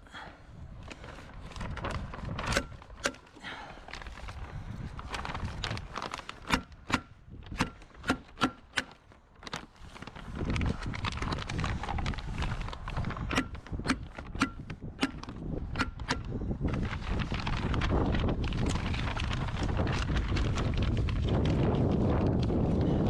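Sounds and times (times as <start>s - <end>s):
wind rumble on microphone: 0.4s - 3.0s, 3.8s - 8.2s, 9.5s - 23.0s.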